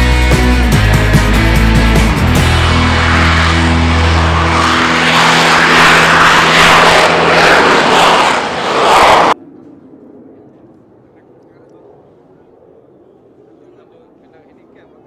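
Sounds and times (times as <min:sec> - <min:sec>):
jet engine roar: 0:00.6 - 0:15.0.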